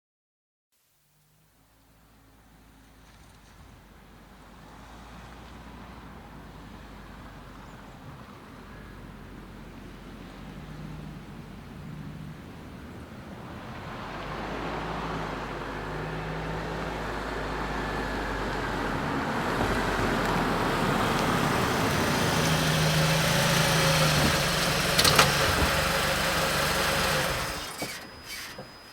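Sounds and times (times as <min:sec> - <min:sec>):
car engine and tyre noise: 0:01.5 - 0:28.9.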